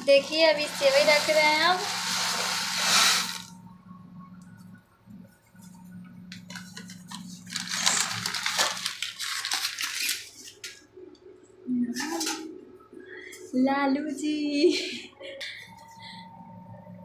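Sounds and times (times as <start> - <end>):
steady low hum: 0.0 - 9.1, 10.6 - 17.0.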